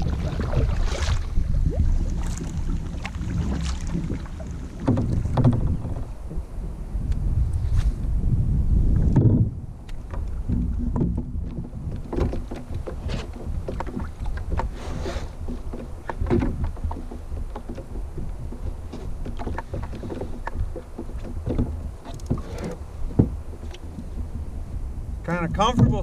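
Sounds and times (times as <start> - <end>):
kayak paddle splashing: 0.0 - 6.8, 9.7 - 26.0
wind rumble on microphone: 0.0 - 26.0.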